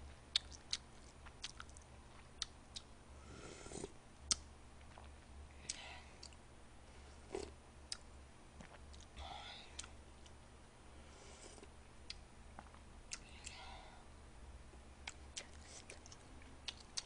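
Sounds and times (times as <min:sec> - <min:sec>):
low steady hum: 0:00.0 - 0:17.0
soft mouth sounds: 0:00.3 - 0:06.4, 0:07.1 - 0:10.4, 0:11.1 - 0:14.0, 0:15.0 - 0:17.0.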